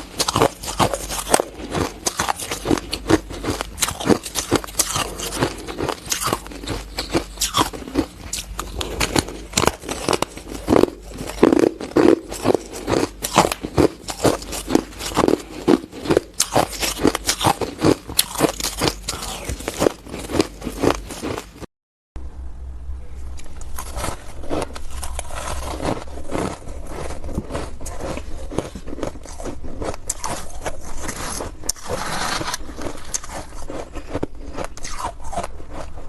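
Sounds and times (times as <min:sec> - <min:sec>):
ice being chewed: 0:00.0 - 0:21.7, 0:23.6 - 0:36.0.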